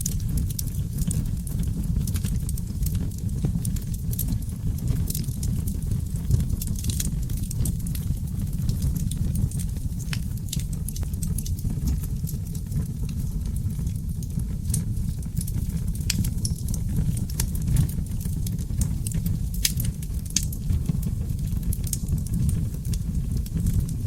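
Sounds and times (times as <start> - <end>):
fire crackles and pops: 0.0 - 24.0
low rumble of flames: 0.0 - 24.0.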